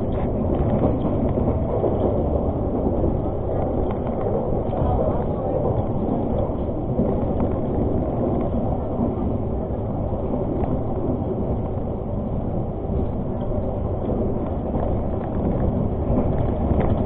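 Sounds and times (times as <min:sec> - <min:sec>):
train running heard from inside: 0:00.0 - 0:17.0.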